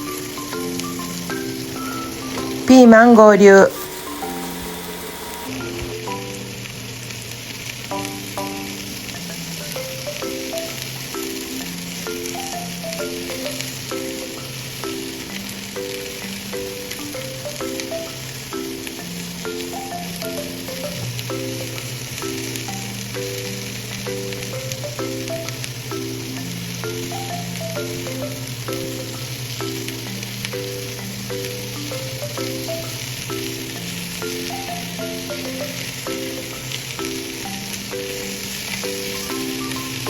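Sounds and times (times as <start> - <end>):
mallet background music: 0.0 - 7.0, 7.9 - 40.0
food sizzling in frying pan: 0.0 - 40.0.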